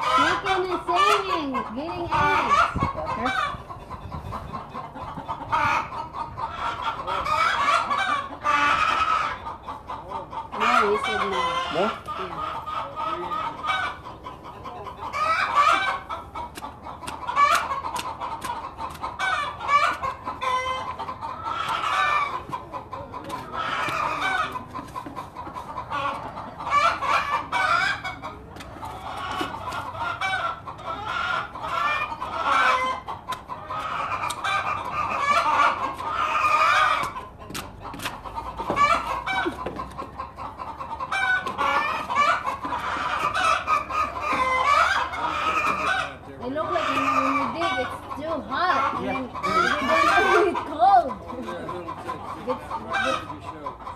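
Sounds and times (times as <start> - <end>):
chickens clucking and squawking: 0.0 - 53.9.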